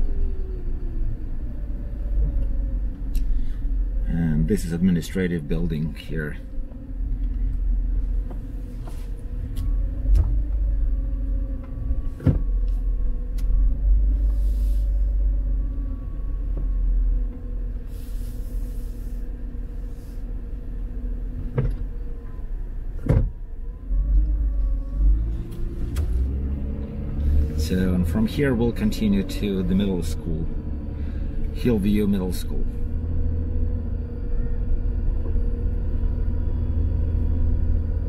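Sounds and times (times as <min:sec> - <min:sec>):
car interior rumble: 0:00.0 - 0:38.0.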